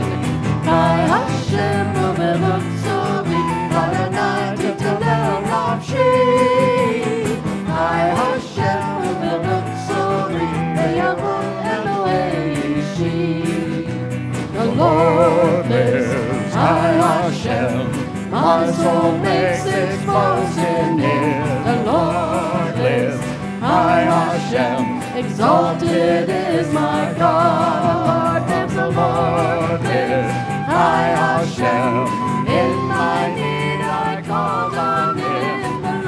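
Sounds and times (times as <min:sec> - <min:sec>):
guitar: 0:00.0 - 0:36.0
person singing: 0:00.0 - 0:36.0
worship band playing: 0:00.0 - 0:36.0.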